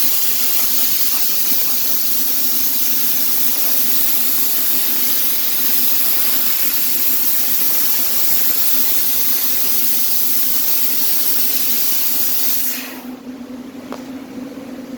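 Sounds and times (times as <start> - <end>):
laser cutter high hiss: 0.0 - 13.2
machine hum: 0.0 - 14.9.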